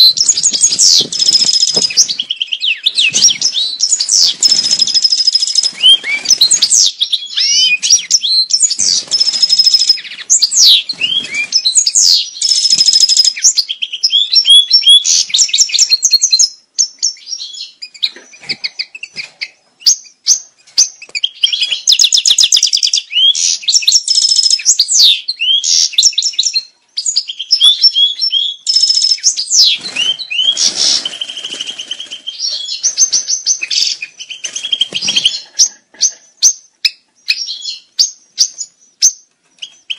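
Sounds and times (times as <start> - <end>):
goldfinch song: 0.0 - 39.9.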